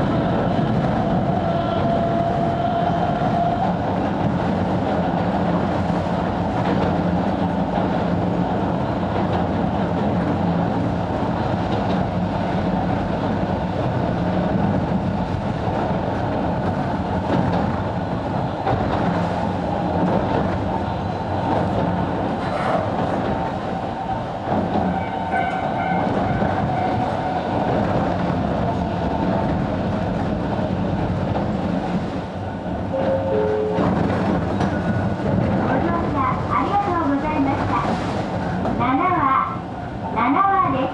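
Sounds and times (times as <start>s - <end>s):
wheels rumbling on rail: 0.0s - 40.9s.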